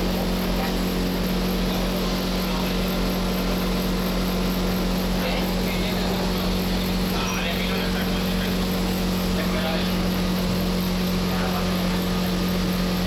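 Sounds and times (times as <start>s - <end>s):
electrical hum of metro car: 0.0s - 13.0s.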